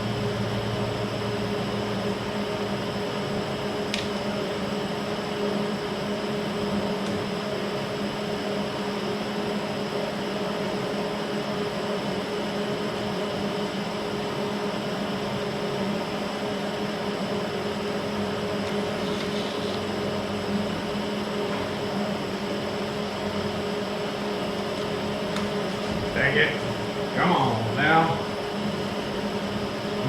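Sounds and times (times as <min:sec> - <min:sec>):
machine hum: 0:00.0 - 0:10.2, 0:13.4 - 0:30.0.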